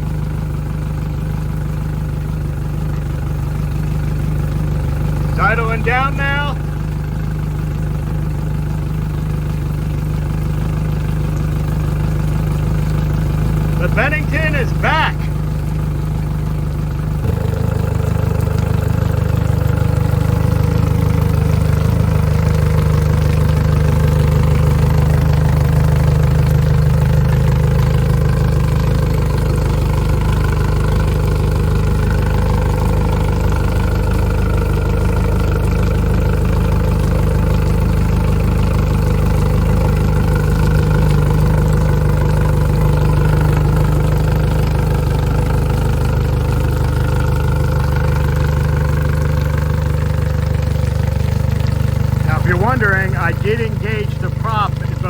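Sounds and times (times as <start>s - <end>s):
outboard motor idling: 0.0s - 55.0s.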